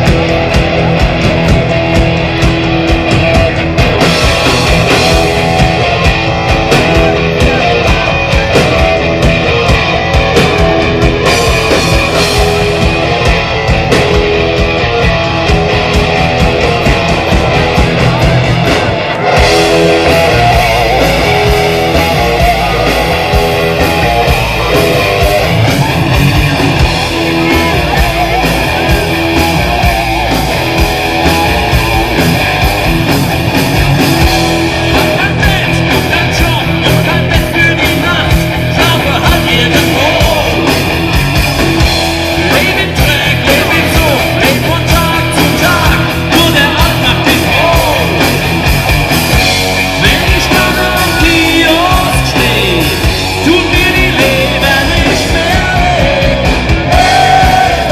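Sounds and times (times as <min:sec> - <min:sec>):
live heavy metal band: 0:00.0 - 0:57.9.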